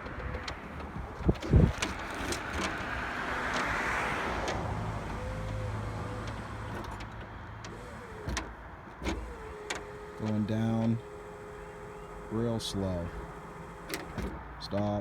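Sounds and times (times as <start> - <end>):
hydraulic pump humming: 0.0 - 14.9.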